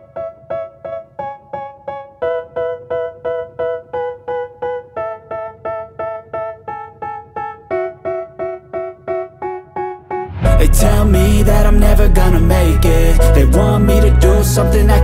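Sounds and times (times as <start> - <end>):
keyboard playing repeated chords: 0.0 - 15.0.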